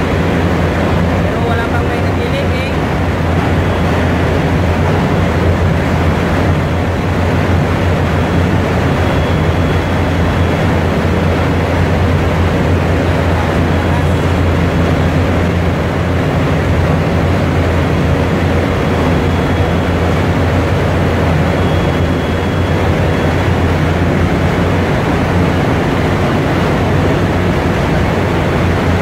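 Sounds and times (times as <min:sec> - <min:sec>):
pump machinery hum: 0:00.0 - 0:29.0.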